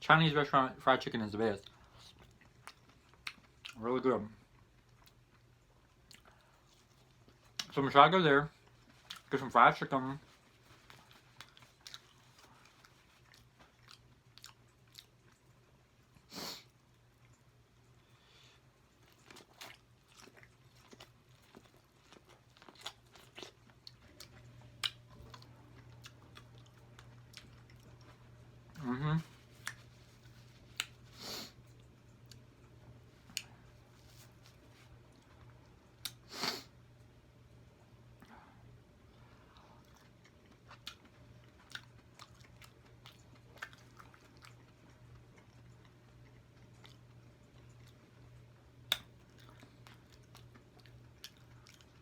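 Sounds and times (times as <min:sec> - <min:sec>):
faint steady hum: 0:00.0 - 0:52.0
close-up chewing: 0:01.6 - 0:07.8, 0:08.5 - 0:09.4, 0:10.0 - 0:36.3, 0:39.0 - 0:52.0.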